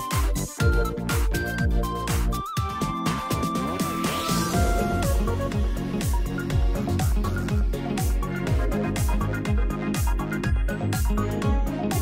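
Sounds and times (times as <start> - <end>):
deep kick drum beat: 0.0 - 12.0.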